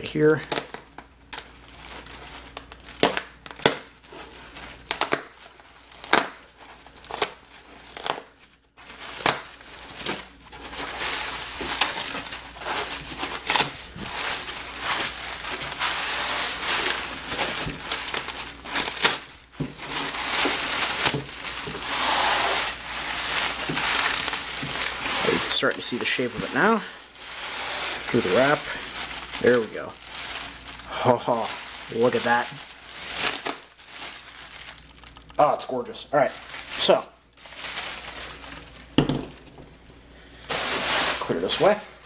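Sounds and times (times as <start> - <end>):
foam wrap crackling and rustling: 0.0 - 42.0.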